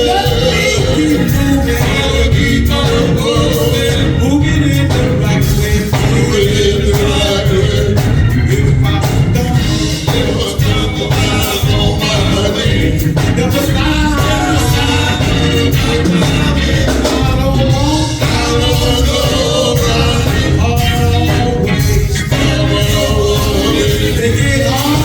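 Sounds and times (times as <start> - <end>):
heavy bass: 0.0 - 25.0
live band playing: 0.0 - 25.0
men's choir singing: 0.0 - 25.0
steady drum beat: 0.0 - 25.0.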